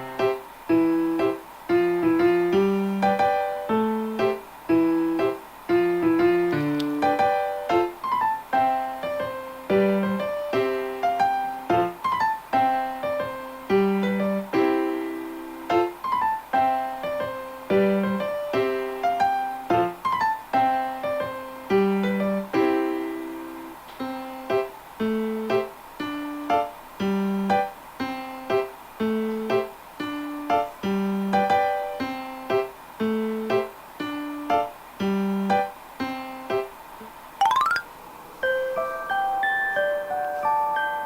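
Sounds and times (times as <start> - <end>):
gentle piano melody: 0.0 - 36.7, 37.4 - 41.0.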